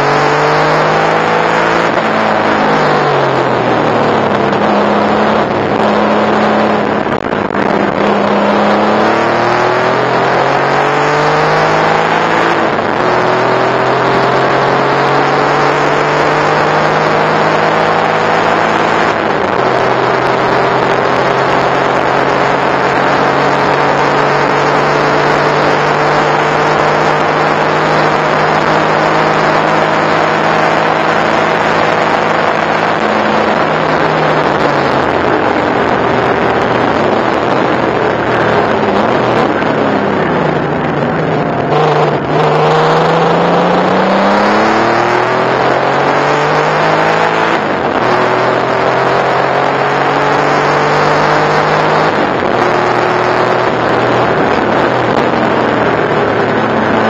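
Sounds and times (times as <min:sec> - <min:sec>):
gear changes: 0:00.0 - 0:57.0
race car engine at high revs: 0:00.0 - 0:57.0
wind and road noise: 0:00.0 - 0:57.0.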